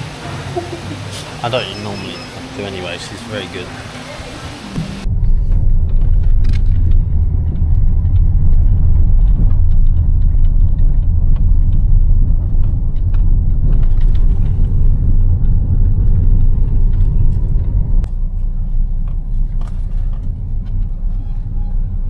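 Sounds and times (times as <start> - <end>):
loud low rumble: 3.6 - 22.0.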